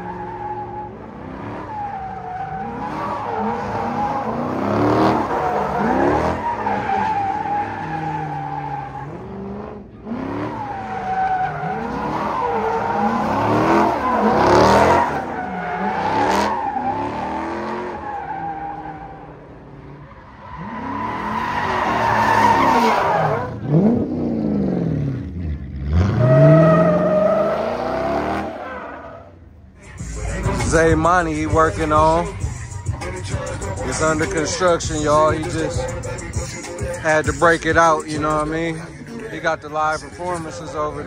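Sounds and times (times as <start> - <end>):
car engine revving: 0.0 - 29.0, 29.8 - 41.0.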